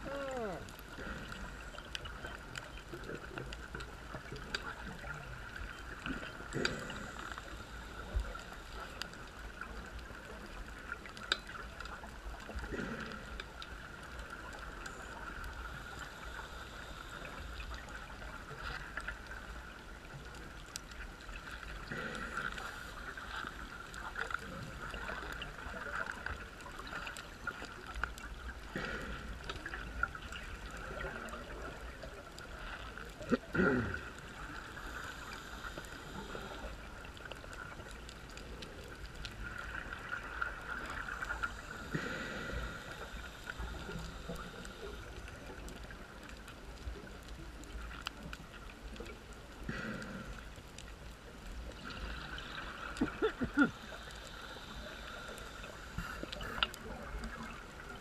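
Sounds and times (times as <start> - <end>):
diver bubbles gurgling: 0.0 - 16.6, 21.3 - 47.2, 51.6 - 58.0
constant high hum: 0.0 - 58.0
faint clicks: 0.0 - 58.0
steady underwater hiss: 0.0 - 58.0.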